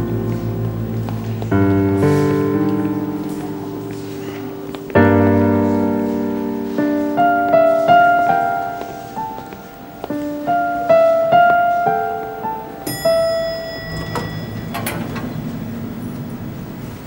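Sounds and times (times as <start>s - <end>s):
dramatic piano music: 0.0s - 17.0s.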